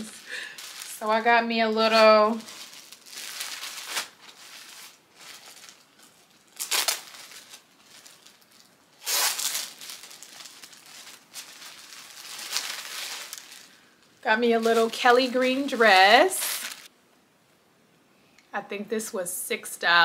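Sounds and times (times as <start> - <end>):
plastic bag crinkling: 0.0 - 16.9.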